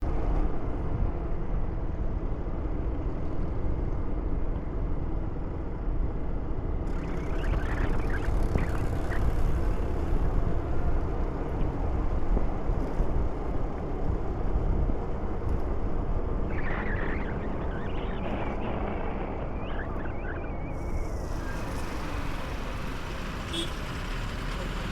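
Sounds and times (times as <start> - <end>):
vehicle engine rumbling: 0.1 - 24.9.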